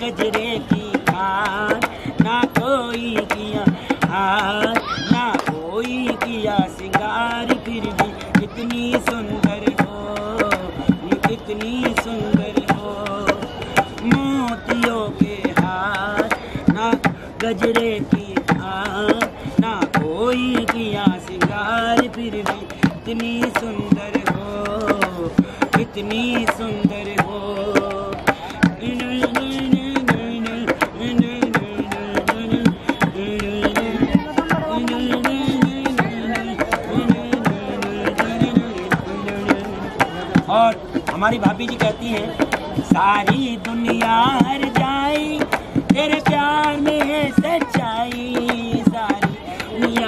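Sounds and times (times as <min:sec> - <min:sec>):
hands drumming on plastic canister: 0:00.0 - 0:50.0
man singing: 0:00.0 - 0:50.0.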